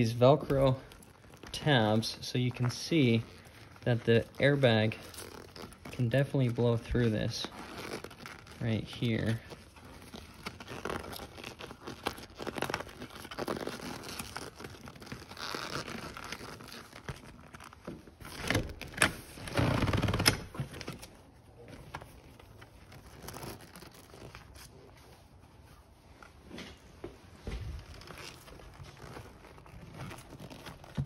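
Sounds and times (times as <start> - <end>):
velcro ripping: 0.0 - 21.2, 22.2 - 25.4, 27.6 - 31.0.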